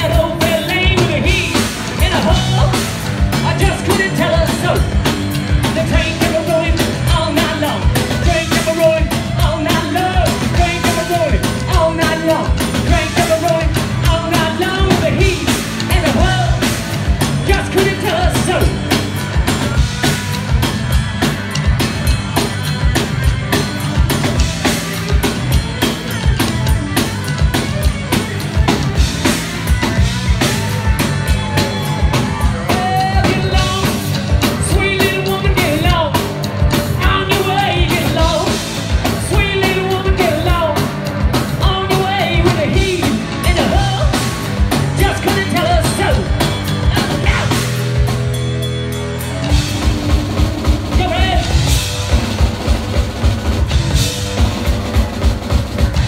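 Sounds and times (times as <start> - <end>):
man singing lead: 0.0 - 20.6, 21.2 - 48.2, 49.2 - 51.9
live rock band playing: 0.0 - 56.0.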